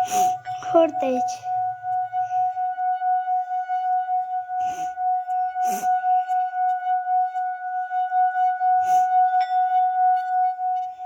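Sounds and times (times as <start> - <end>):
singing bowl ringing: 0.0 - 11.0.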